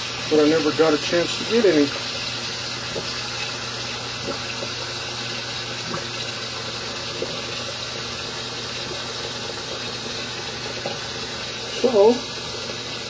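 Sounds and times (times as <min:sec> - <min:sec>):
water running from sink tap: 0:00.0 - 0:13.0.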